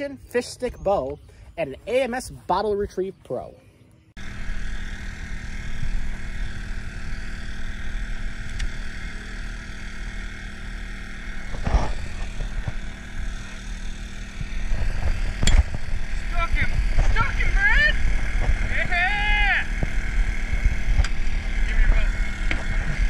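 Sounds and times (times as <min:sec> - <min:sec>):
small boat engine humming: 0:04.2 - 0:23.0.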